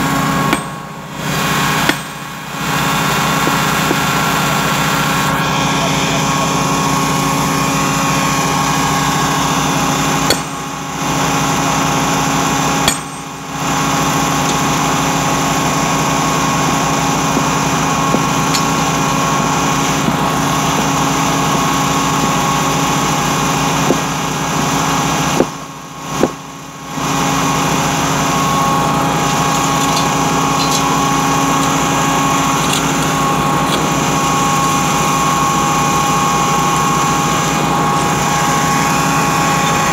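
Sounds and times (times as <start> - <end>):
high whine: 0.0 - 39.9
small engine running: 0.0 - 39.9.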